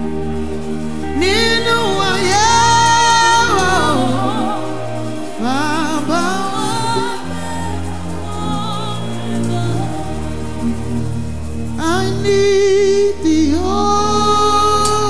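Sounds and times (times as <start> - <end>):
accompaniment chords and bass: 0.0 - 15.0
woman singing with vibrato: 0.0 - 15.0.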